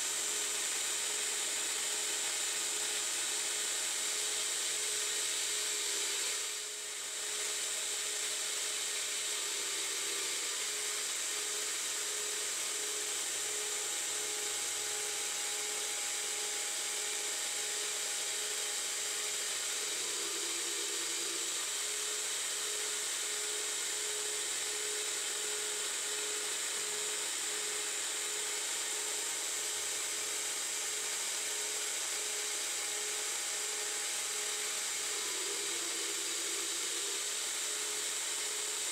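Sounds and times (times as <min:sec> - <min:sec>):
lathe cutting with high hiss: 0:00.0 - 0:38.9.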